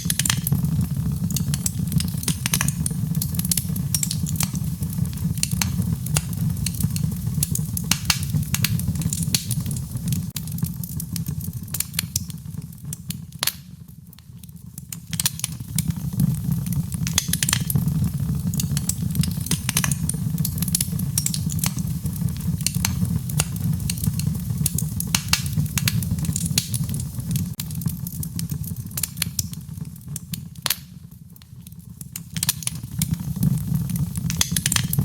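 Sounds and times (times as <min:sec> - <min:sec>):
low rumble of flames: 0:00.0 - 0:35.0
wood fire crackling: 0:00.0 - 0:35.0.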